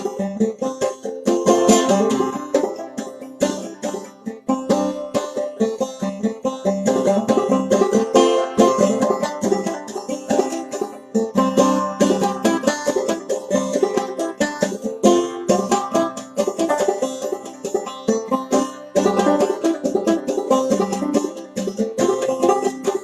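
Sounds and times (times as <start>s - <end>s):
banjo playing: 0.0s - 23.0s.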